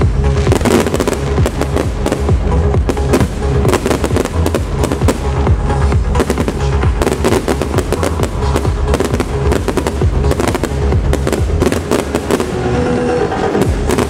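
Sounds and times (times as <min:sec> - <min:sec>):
fireworks bursting and crackling: 0:00.0 - 0:14.0
trance music with heavy bass: 0:00.0 - 0:14.0.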